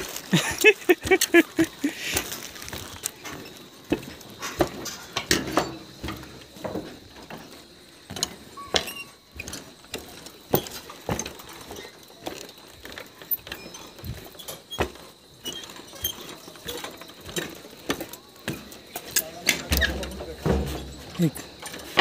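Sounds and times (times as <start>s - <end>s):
footsteps on wooden planks: 0.0s - 22.0s.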